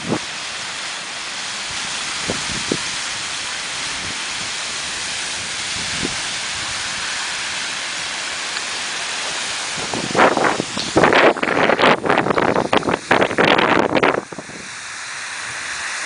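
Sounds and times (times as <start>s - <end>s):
geyser rushing hiss: 0.0s - 16.0s.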